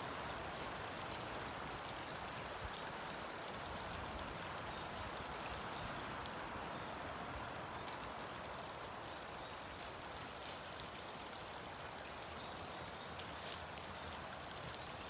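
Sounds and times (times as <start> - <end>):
steady rain in forest: 0.0 - 15.0.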